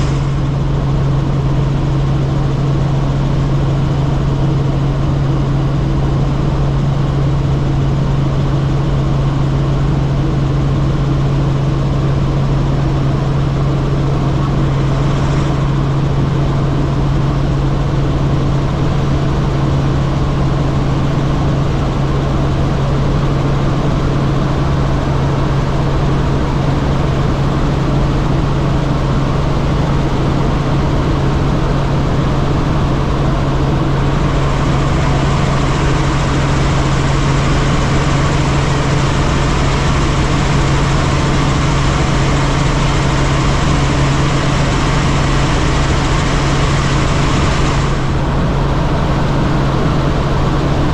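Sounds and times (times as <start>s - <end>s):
helicopter running: 0.0s - 50.9s.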